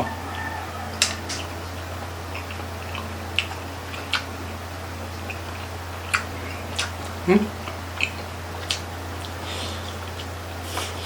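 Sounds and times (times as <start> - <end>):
chewing food: 0.0 - 11.0
steady low hum: 0.0 - 11.0.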